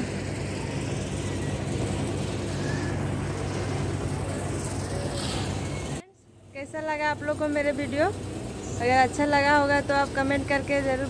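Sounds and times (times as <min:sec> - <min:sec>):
low engine-like hum: 0:00.0 - 0:11.0
outdoor background noise: 0:00.0 - 0:11.0.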